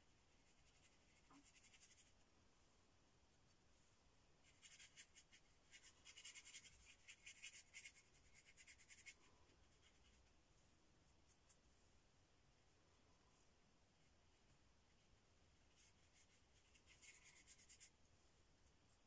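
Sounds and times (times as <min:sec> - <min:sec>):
brush strokes scratching: 0:00.1 - 0:02.3, 0:03.7 - 0:12.0, 0:13.3 - 0:19.0.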